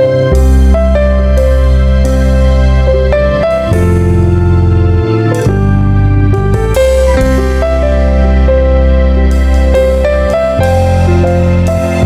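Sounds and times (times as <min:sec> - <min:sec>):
soft piano melody: 0:00.0 - 0:12.0
sustained bass: 0:00.0 - 0:12.0.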